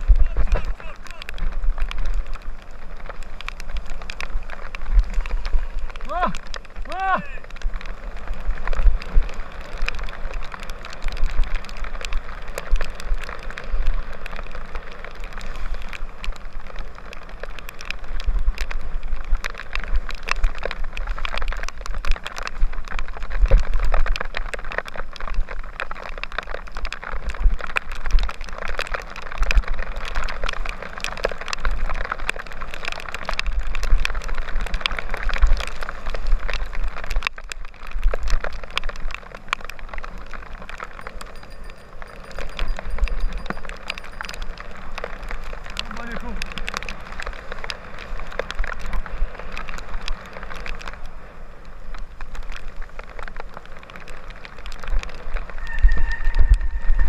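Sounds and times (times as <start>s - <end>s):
wind buffeting microphone: 0.0s - 25.7s, 27.2s - 57.0s
bike rattling over stones: 0.0s - 57.0s
bike tyres hissing over wet grit: 0.0s - 57.0s.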